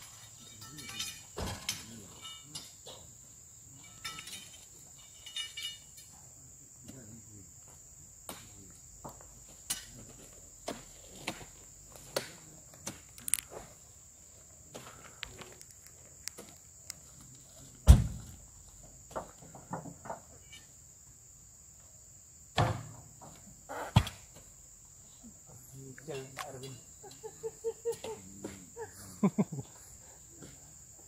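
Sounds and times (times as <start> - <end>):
high insect whine: 0.0 - 31.0.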